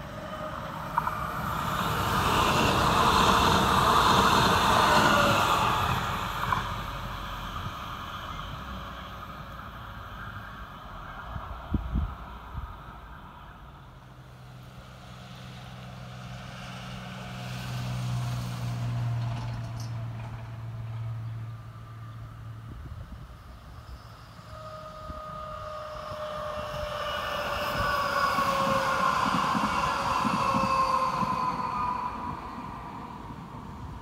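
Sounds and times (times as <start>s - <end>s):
train wheel and rail noise: 0.0s - 34.0s.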